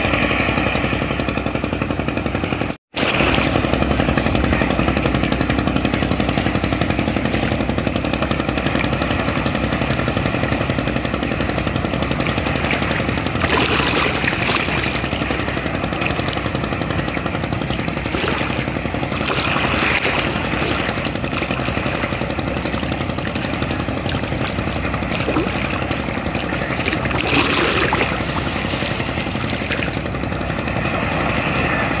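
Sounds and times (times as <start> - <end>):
boat engine chugging: 0.0 - 32.0
rushing water: 0.0 - 32.0.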